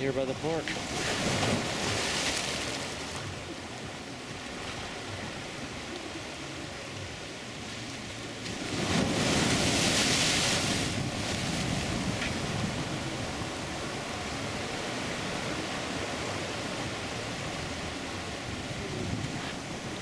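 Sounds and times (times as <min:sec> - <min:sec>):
waves breaking on rocky shore: 0:00.0 - 0:20.0.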